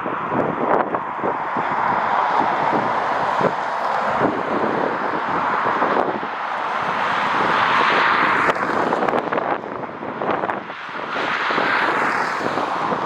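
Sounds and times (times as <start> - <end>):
strong gusting wind: 0.0 - 13.0.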